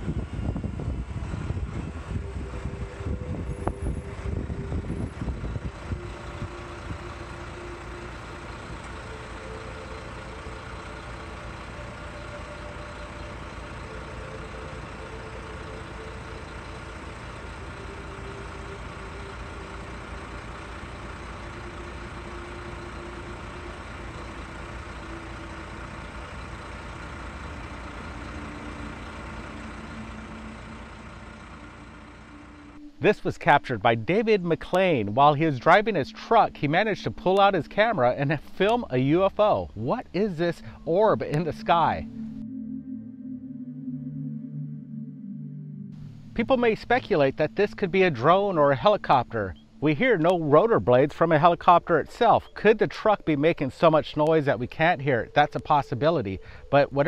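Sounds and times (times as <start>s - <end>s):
truck engine from inside cab: 0.0s - 57.0s.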